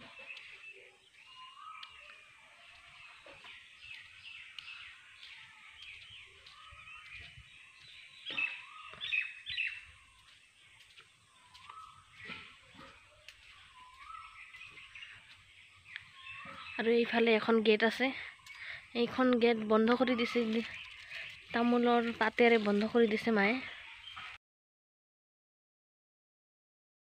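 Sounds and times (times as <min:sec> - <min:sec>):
birds chirping: 0:00.0 - 0:24.4.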